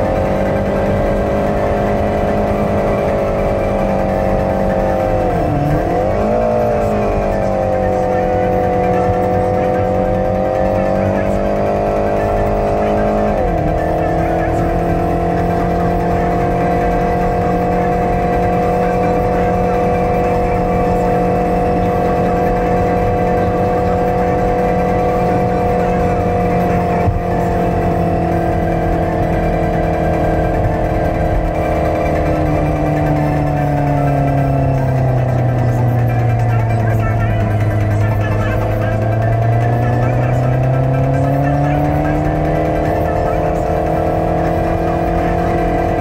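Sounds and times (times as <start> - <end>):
car engine cruising inside cabin: 0.0 - 46.0
tyre and road noise: 0.0 - 46.0.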